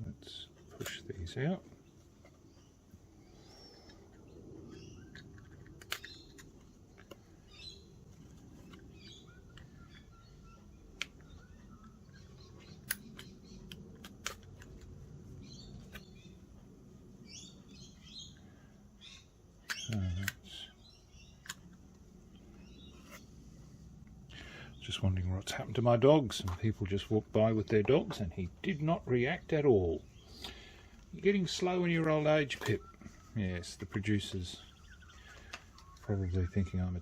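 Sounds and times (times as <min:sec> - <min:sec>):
birds chirping faintly: 0:00.0 - 0:37.0.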